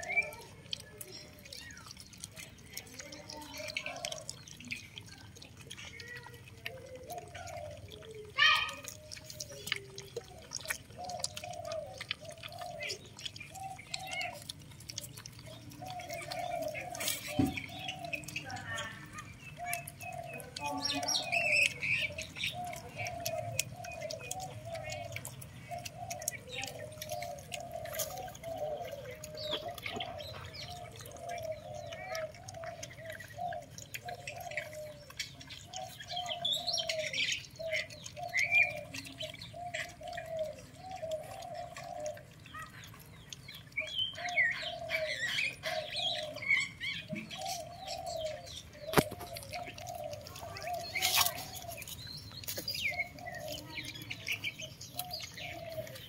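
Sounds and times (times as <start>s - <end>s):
puppies whimpering and squealing: 0.0s - 56.0s.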